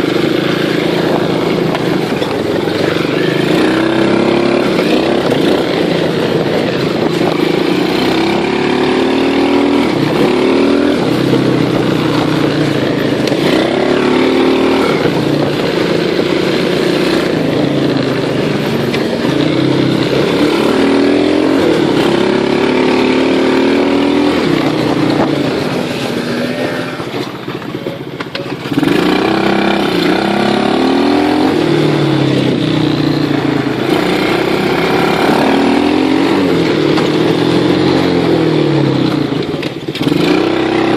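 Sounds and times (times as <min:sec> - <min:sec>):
small engine revving: 0:00.0 - 0:40.9.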